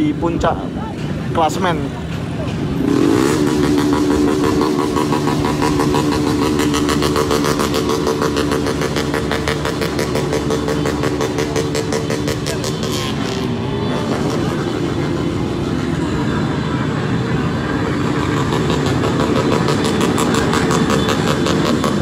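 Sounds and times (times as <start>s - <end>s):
motorcycle engines running: 0.0s - 22.0s
noisy crowd: 0.0s - 22.0s.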